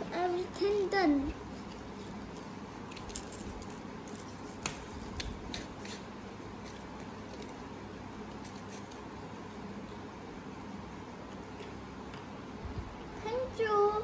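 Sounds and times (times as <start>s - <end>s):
room noise: 0.0s - 14.0s.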